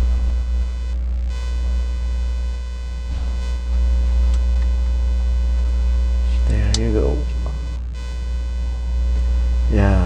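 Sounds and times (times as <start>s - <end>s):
low electrical hum with buzz: 0.0s - 10.0s.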